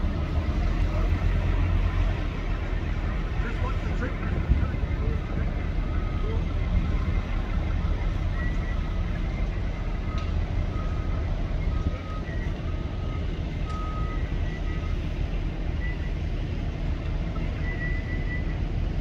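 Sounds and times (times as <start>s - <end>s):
heavy machinery engine running: 0.0s - 19.0s
reversing alarm beeping: 2.6s - 16.5s, 17.4s - 18.8s.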